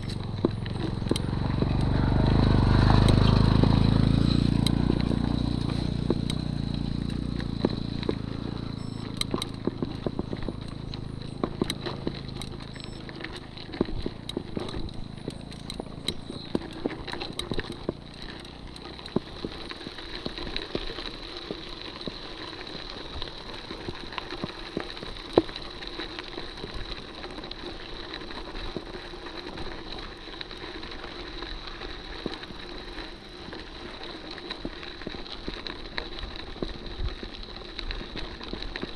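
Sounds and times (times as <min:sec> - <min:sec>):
bike clicks and rattles: 0:00.0 - 0:38.9
bike rolling over gravel: 0:00.0 - 0:38.9
motorcycle engine: 0:00.0 - 0:38.9.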